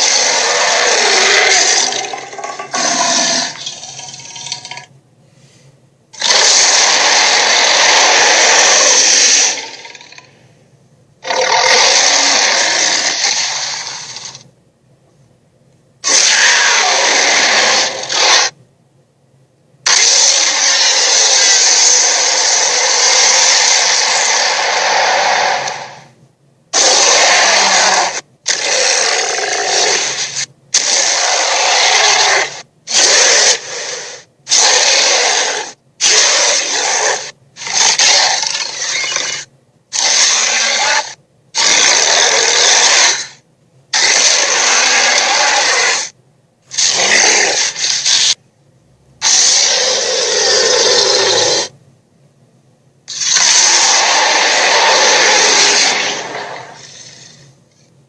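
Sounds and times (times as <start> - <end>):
dinosaur roars: 0.0 - 3.8, 6.2 - 10.3, 11.2 - 14.4, 16.0 - 18.5, 19.9 - 26.1, 26.8 - 43.3, 44.0 - 46.1, 46.8 - 48.4, 49.2 - 51.7, 53.1 - 57.4.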